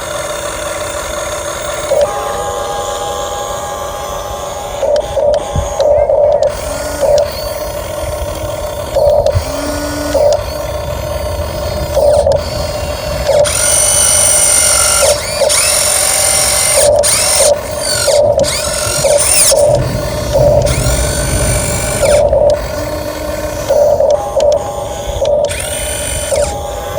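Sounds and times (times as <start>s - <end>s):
electric motor whining: 0.0s - 26.9s
mechanical rattle: 0.0s - 26.9s.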